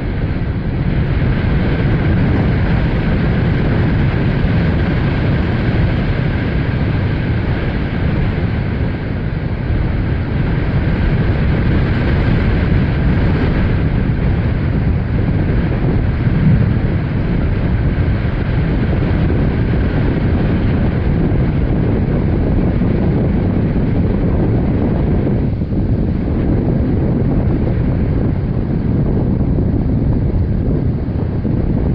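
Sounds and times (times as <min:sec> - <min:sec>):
wind blowing across microphone: 0:00.0 - 0:31.9.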